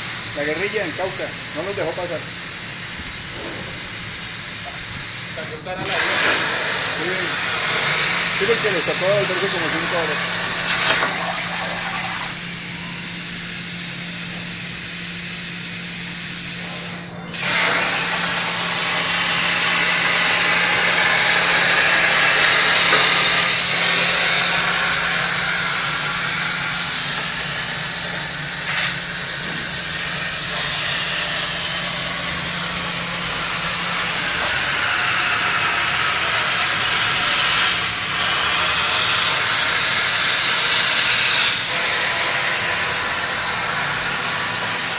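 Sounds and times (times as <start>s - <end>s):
plasma torch hissing: 0.0s - 44.9s.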